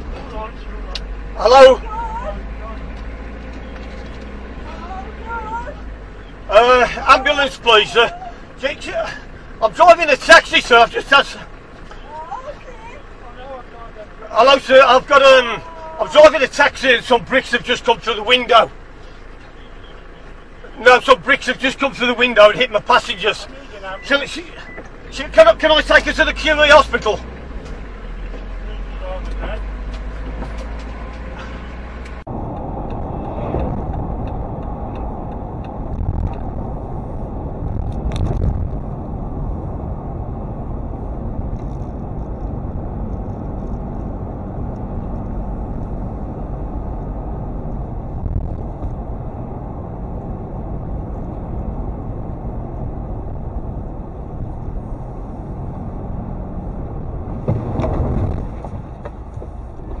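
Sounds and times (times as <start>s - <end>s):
car engine and road noise: 0.0s - 60.0s.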